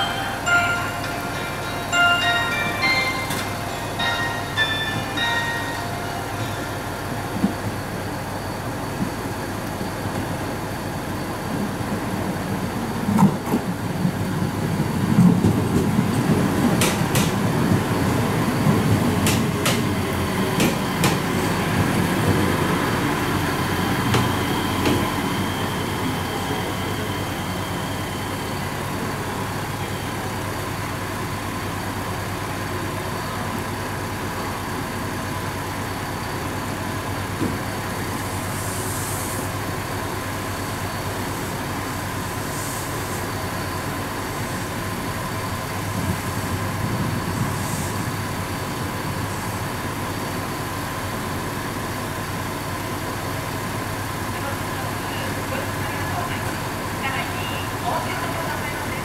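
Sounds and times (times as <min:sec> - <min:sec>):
standing train humming: 0:00.0 - 0:59.0
train wheels rumbling on rails: 0:00.0 - 0:59.0.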